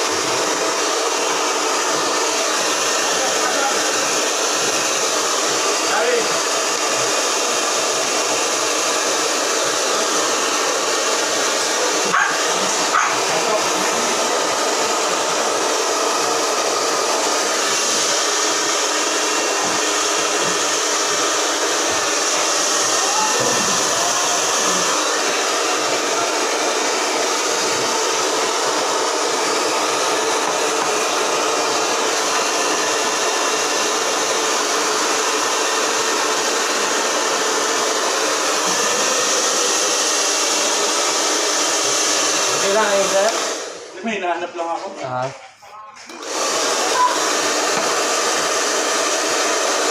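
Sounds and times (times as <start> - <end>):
hair dryer blowing: 0.0 - 45.3, 46.0 - 49.9.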